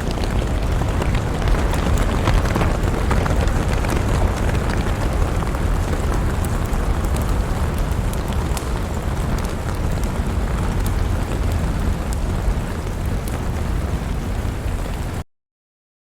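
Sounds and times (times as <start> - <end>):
fire crackling and popping: 0.0 - 15.2
low rumble of flames: 0.0 - 15.2.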